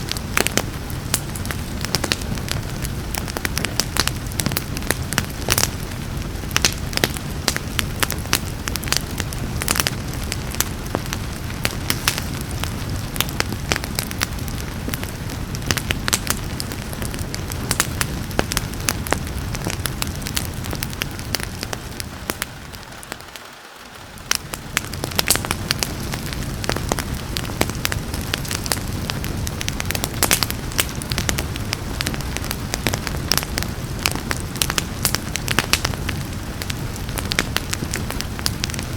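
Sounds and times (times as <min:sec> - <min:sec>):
rain hissing: 0:00.0 - 0:38.9
wood fire crackling and popping: 0:00.0 - 0:38.9.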